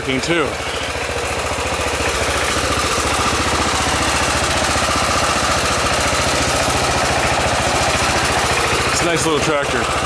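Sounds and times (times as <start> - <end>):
small tractor engine running: 0.0 - 10.0.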